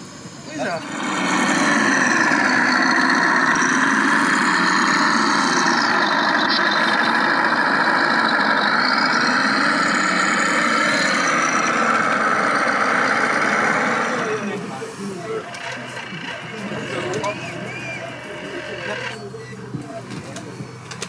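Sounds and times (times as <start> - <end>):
model vehicle engine running: 0.0 - 21.0.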